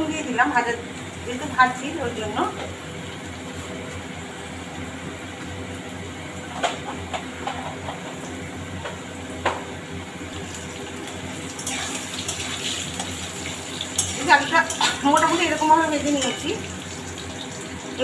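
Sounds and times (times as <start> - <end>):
potatoes frying in oil: 0.0 - 18.0.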